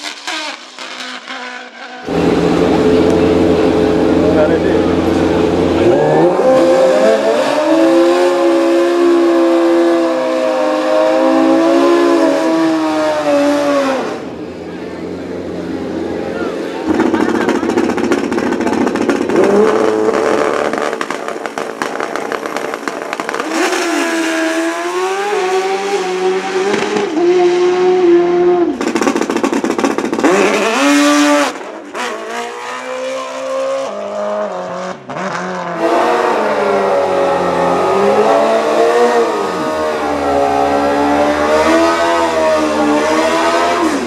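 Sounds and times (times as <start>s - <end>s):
dirt bike engines revving: 2.0s - 44.0s.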